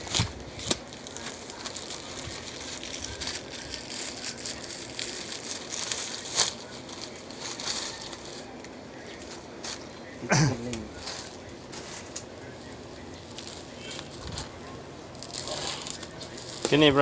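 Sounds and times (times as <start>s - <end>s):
packaging rustling and crinkling: 0.0s - 10.0s, 10.7s - 17.0s.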